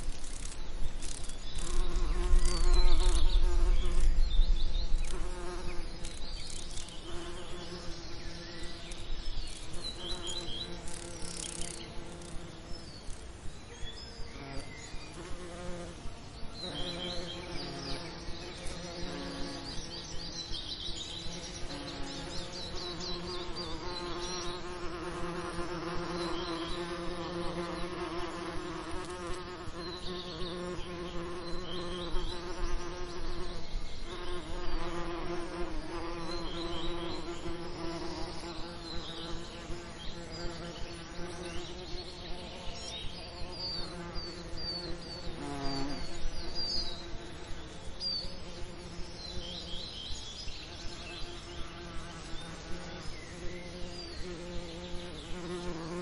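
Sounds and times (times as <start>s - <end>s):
bees buzzing: 0.0s - 13.2s, 21.1s - 50.0s, 50.7s - 56.0s.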